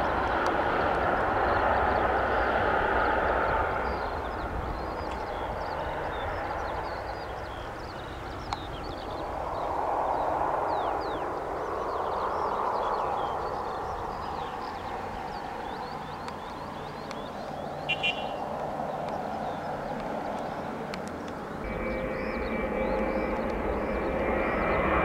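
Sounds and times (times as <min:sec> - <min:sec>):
distant jet engine rush: 0:00.0 - 0:25.0
small birds chirping: 0:03.8 - 0:25.0.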